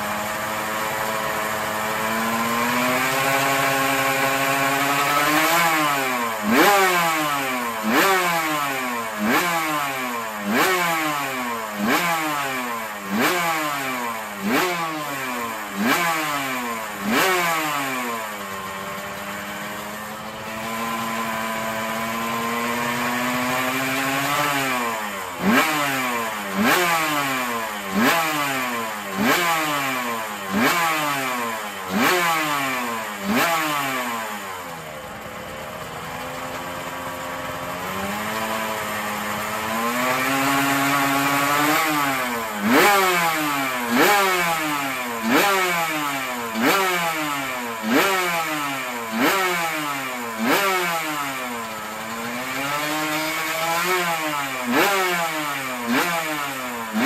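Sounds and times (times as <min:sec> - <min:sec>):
racing engine revving: 0:00.0 - 0:57.0.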